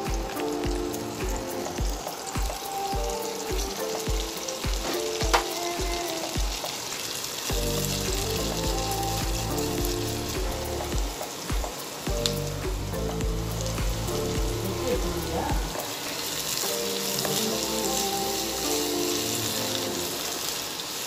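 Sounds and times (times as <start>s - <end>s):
onions sizzling in a pan: 0.0s - 21.0s.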